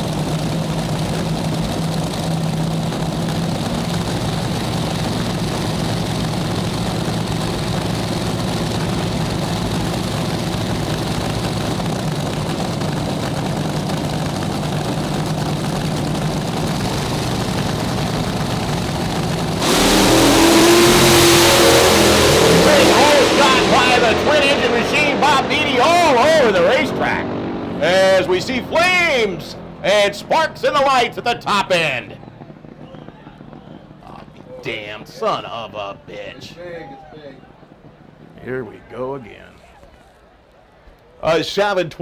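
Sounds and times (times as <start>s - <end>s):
dragster engines launching full throttle: 0.0s - 40.3s
dragster engines idling: 0.0s - 42.0s.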